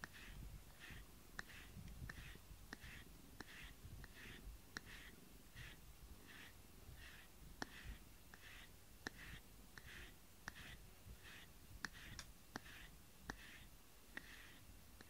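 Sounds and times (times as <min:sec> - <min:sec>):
brush swishing through fur: 0:00.0 - 0:14.6.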